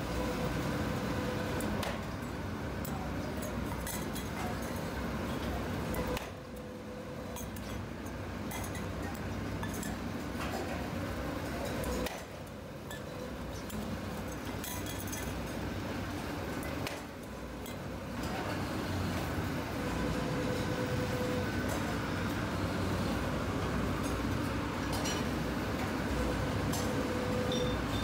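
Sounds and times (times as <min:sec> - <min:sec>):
workshop machinery humming: 0:00.0 - 0:28.0.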